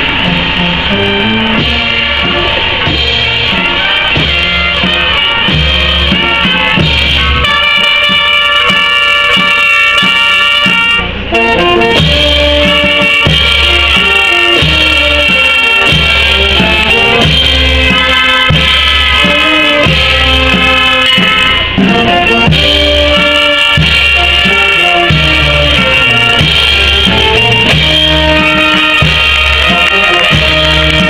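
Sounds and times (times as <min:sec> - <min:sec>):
low drum beat: 0:00.0 - 0:07.5, 0:11.2 - 0:31.0
sustained melody: 0:00.0 - 0:31.0.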